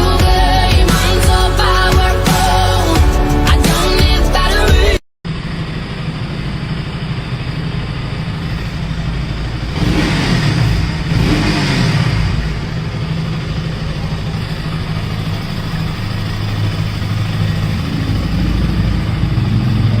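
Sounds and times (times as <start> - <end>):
motorcycle engine revving and idling: 0.0 - 20.0.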